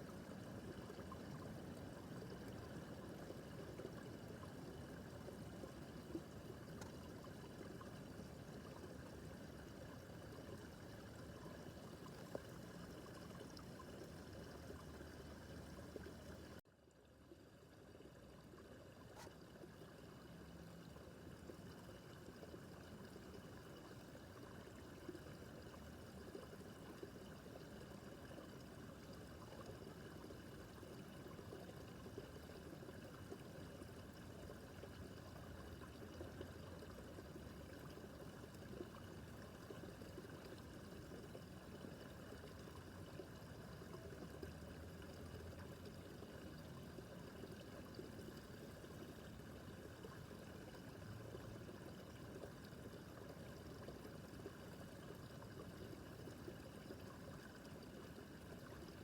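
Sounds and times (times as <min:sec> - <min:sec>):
brook running water: 0:00.0 - 0:59.0.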